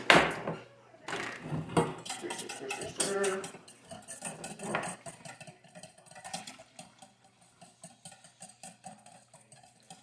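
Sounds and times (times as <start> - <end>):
utensil clinking and scraping bowl: 1.1 - 10.0.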